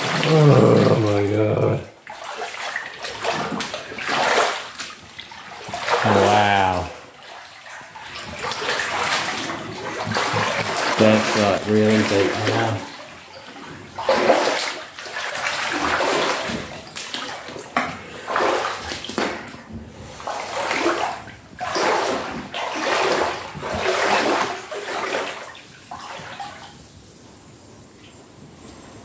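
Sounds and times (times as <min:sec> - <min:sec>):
water sloshing around wading legs: 0:00.0 - 0:26.9.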